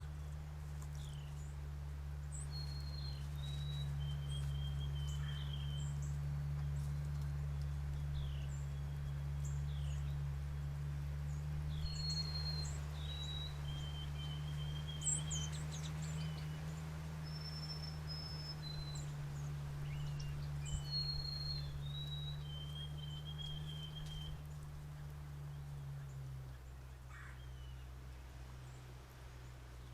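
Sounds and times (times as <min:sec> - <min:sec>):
songbirds chirping and whistling: 0:00.0 - 0:29.9
steady low hum: 0:00.0 - 0:29.9.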